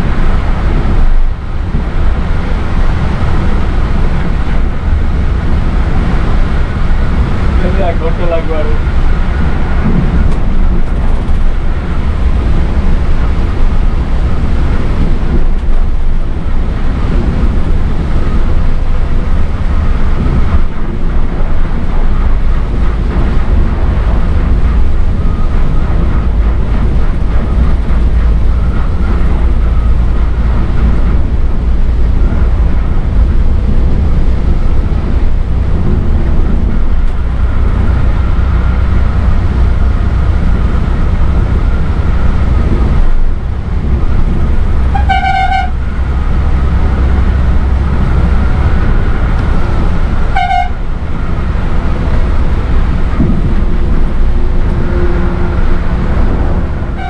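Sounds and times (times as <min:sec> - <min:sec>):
diesel bus engine drone: 0:00.0 - 0:57.0.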